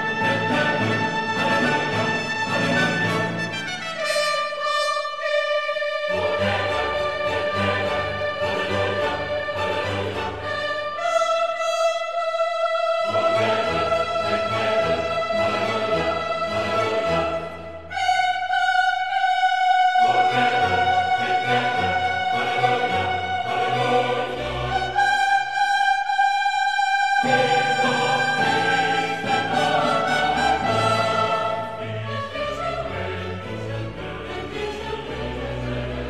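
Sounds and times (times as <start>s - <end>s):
slow music with long held notes: 0.0s - 11.5s, 12.2s - 36.0s.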